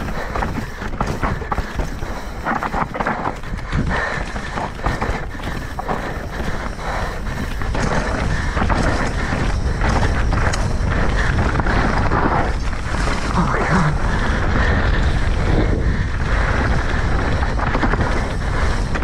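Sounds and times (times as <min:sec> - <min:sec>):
bike clattering over rough ground: 0:00.0 - 0:19.0
bike tyre noise: 0:00.0 - 0:19.0
wind buffeting microphone: 0:00.0 - 0:19.0.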